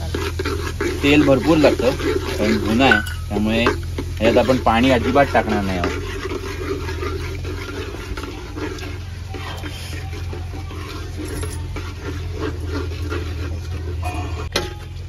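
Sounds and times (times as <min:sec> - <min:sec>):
spices sizzling in hot oil: 0:00.0 - 0:14.0
metal ladle stirring: 0:00.0 - 0:15.0
steady low hum: 0:00.0 - 0:15.0.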